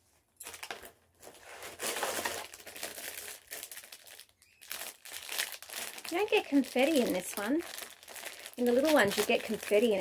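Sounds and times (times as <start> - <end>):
foil packet crinkling: 0.4 - 10.0.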